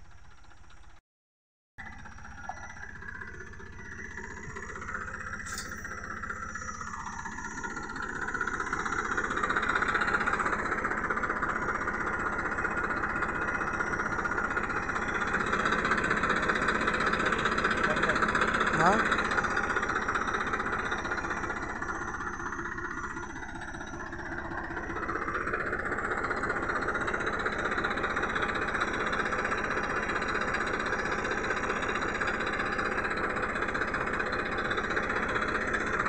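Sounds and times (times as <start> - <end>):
tractor diesel engine idling: 0.0 - 1.0, 1.8 - 36.0.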